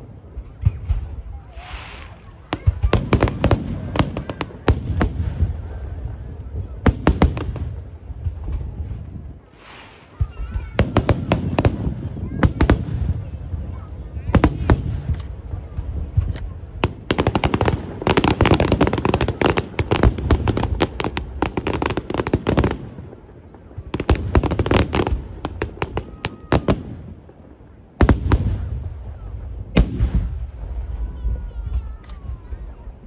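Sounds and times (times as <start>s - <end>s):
fireworks bangs and crackling: 0.0s - 33.0s
fireworks booms: 0.0s - 33.0s.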